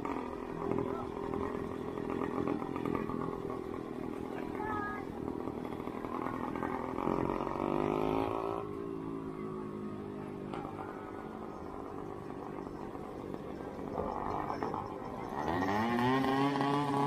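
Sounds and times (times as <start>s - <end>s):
motorcycle engines running: 0.0s - 17.0s
motorcycle revving: 0.0s - 17.0s.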